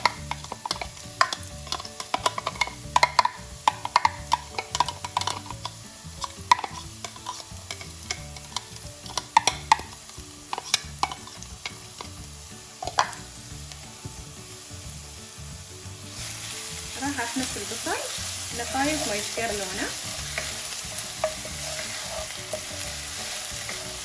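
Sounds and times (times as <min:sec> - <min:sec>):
spoon knocking and scraping pan: 0:00.0 - 0:14.2, 0:16.1 - 0:24.0
onion sizzling in pan: 0:00.0 - 0:24.0.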